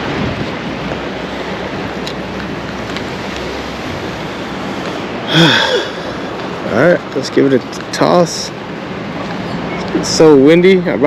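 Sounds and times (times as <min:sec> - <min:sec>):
wind buffeting microphone: 0:00.0 - 0:10.1
stream water rushing: 0:00.0 - 0:11.0.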